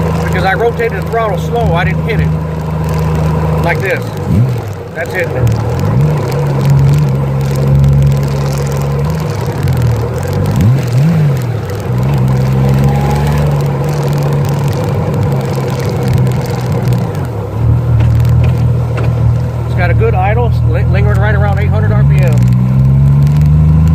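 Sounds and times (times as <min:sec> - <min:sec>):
motorcycle engine idling: 0:00.0 - 0:22.4.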